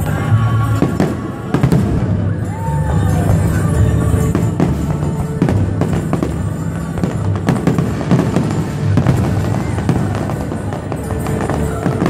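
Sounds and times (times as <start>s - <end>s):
fireworks bangs and crackles: 0.0s - 12.0s
music with held low notes: 0.0s - 12.0s.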